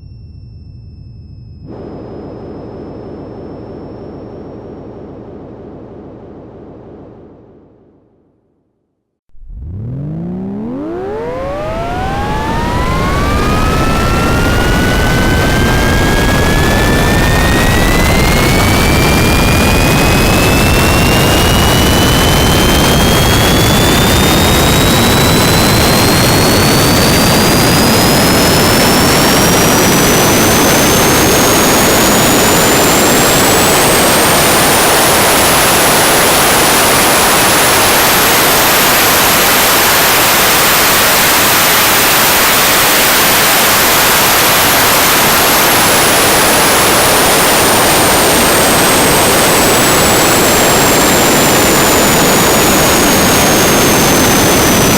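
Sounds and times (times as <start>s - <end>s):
jet engine turbine whine: 9.3s - 54.9s.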